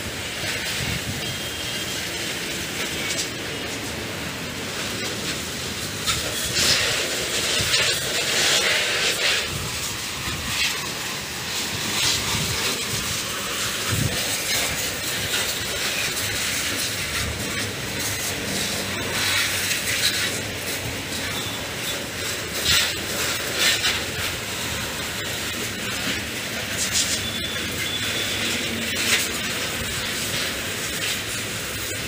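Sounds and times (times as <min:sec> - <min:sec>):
hose water spraying and splashing: 0:00.0 - 0:32.0.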